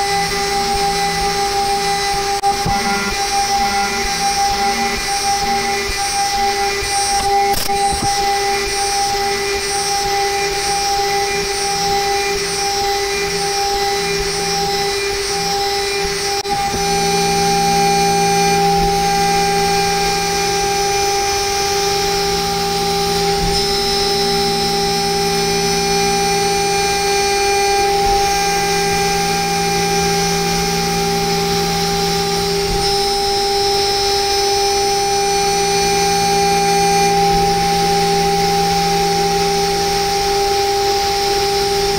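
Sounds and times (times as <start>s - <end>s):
spindle high-pitched whine: 0.0s - 41.9s.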